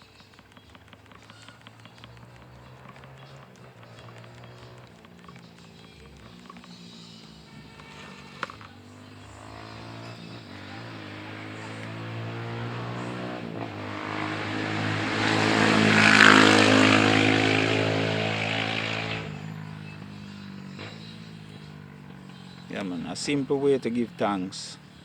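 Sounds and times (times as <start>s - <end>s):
motor vehicle passing by: 0.0s - 25.0s.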